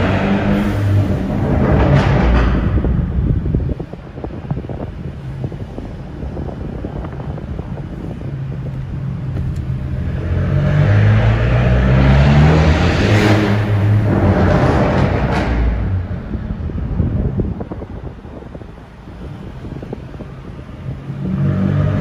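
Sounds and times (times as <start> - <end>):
car engine accelerating: 0.0 - 3.8, 7.2 - 22.0.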